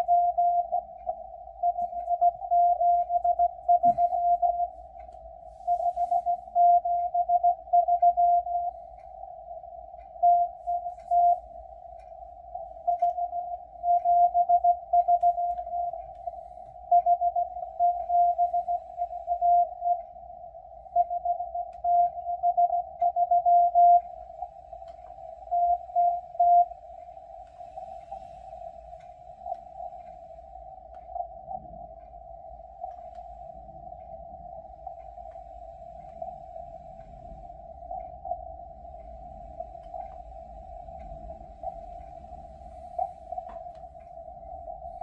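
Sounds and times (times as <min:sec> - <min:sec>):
morse code beeps: 0:00.0 - 0:45.0.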